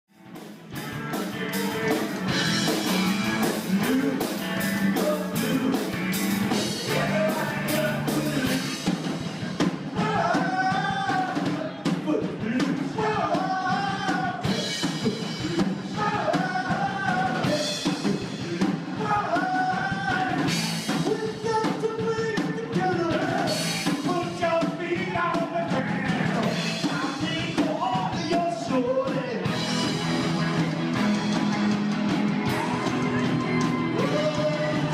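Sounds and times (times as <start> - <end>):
live rock band playing: 0.1 - 34.9
person singing: 0.8 - 9.1, 9.9 - 30.7, 32.4 - 34.9.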